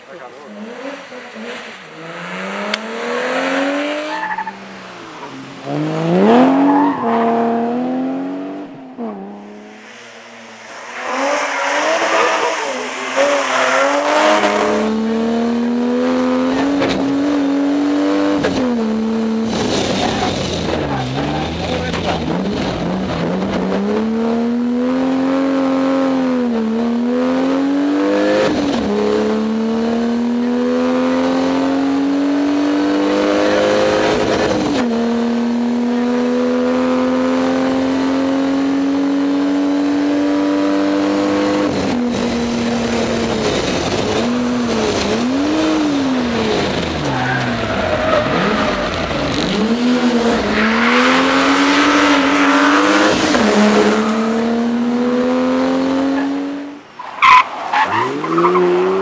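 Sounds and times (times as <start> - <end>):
rally car engine at full throttle: 0.0 - 59.0.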